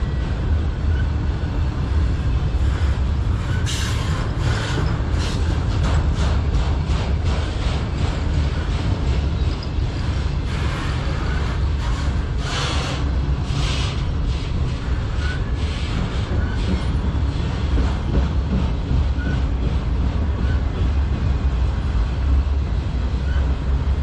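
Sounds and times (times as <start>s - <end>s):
train wheels rumbling on rail: 0.0s - 24.0s
wheels clacking over rail joints: 2.4s - 22.5s.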